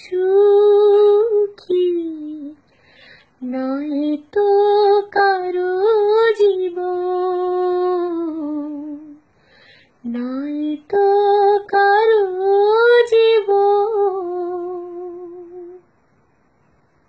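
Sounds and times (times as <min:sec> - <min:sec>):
woman singing unaccompanied: 0:00.0 - 0:02.6, 0:03.4 - 0:09.3, 0:10.0 - 0:15.9.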